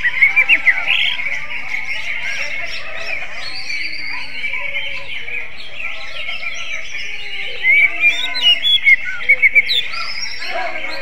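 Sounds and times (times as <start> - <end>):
bird singing chattering song: 0.0 - 11.0.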